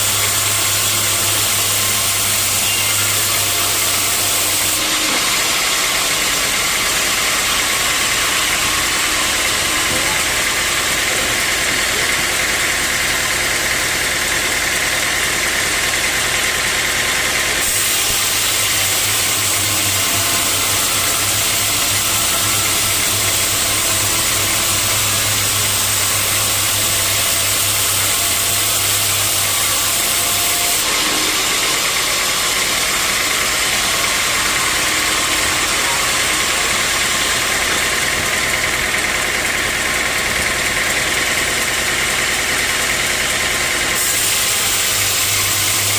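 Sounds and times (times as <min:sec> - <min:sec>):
sawmill machinery drone: 0:00.0 - 0:45.9.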